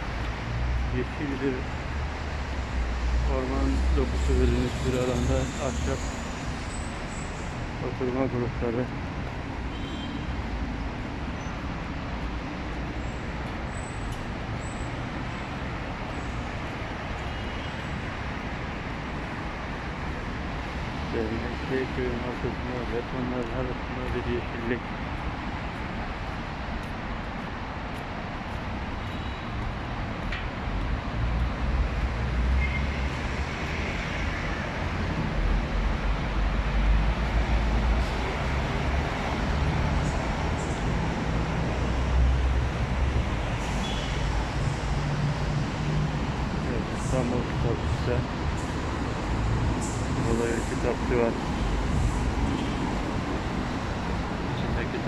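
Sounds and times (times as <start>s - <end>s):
road traffic rumble: 0.0s - 55.0s
traffic hiss: 0.1s - 55.0s.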